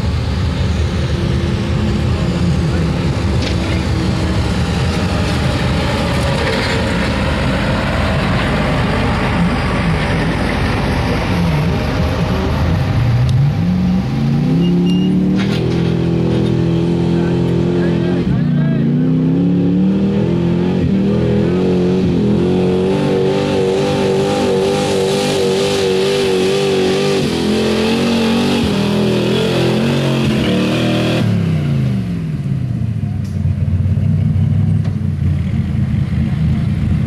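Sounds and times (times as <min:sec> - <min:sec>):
truck engine revving under load: 0:00.0 - 0:37.0.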